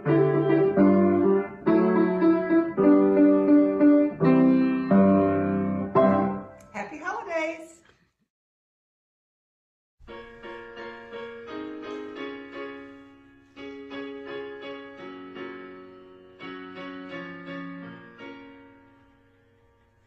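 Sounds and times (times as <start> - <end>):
slow piano notes and chords: 0.0 - 6.6, 10.0 - 20.0.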